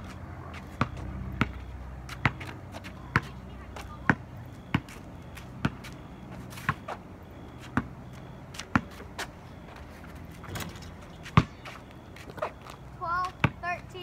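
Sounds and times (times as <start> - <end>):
basketball bouncing on pavement: 0.0 - 14.0.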